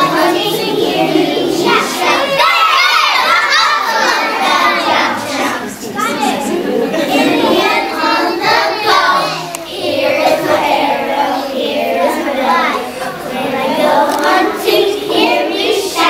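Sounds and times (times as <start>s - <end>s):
children singing in unison: 0.0s - 16.0s.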